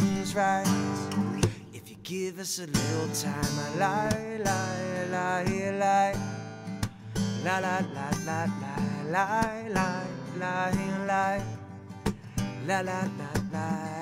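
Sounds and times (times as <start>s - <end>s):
man singing with vibrato: 0.0s - 6.4s, 7.4s - 11.6s, 12.5s - 14.0s
acoustic guitar strumming: 0.0s - 14.0s.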